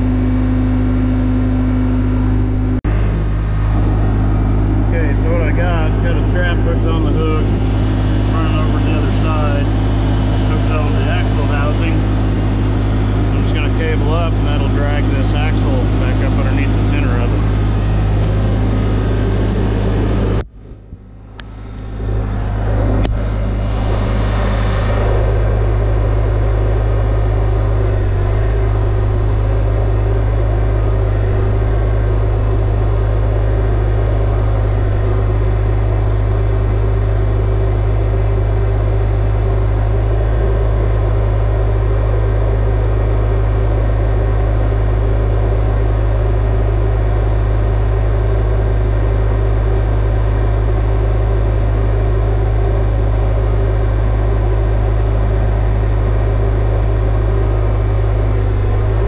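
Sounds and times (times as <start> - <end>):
crane engine droning: 0.0 - 59.0.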